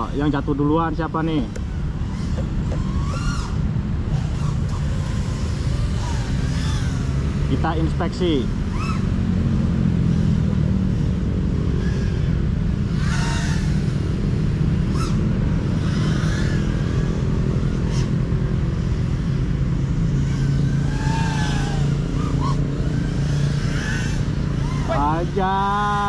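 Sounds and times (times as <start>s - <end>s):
drone motors buzzing: 0.0s - 26.0s.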